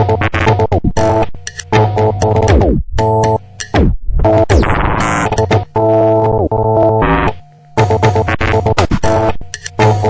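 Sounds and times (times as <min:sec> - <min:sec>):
stuttering synthesizer chords: 0:00.0 - 0:10.0.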